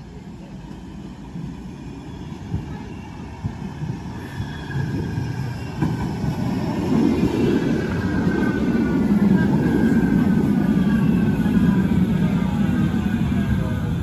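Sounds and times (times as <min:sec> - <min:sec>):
tram rumbling on rails: 0:00.0 - 0:14.0.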